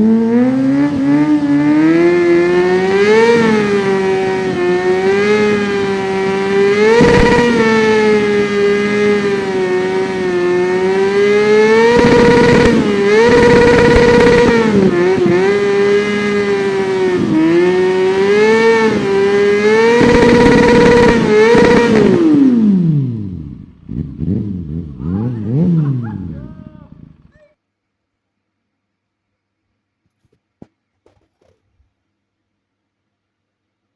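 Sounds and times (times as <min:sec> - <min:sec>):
motorcycle engine revving high: 0:00.0 - 0:27.4.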